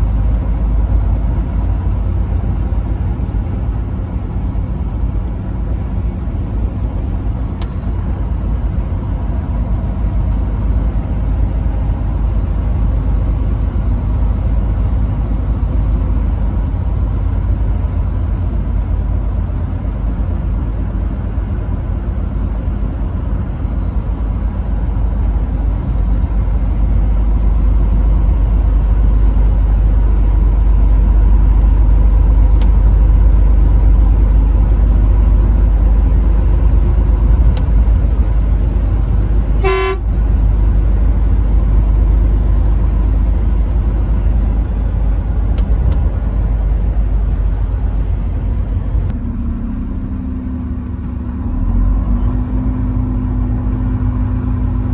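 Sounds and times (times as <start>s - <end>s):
truck engine and tyre rumble: 0.0s - 54.9s.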